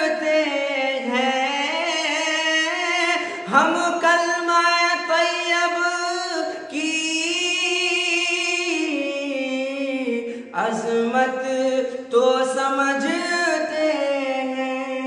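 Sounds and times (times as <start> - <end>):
unaccompanied voice singing: 0.0 - 15.0.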